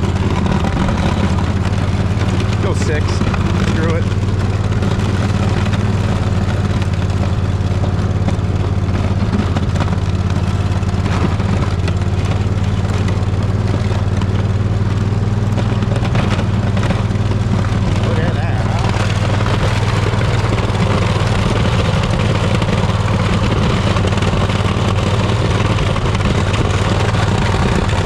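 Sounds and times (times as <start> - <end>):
riding mower engine under load: 0.0 - 28.0.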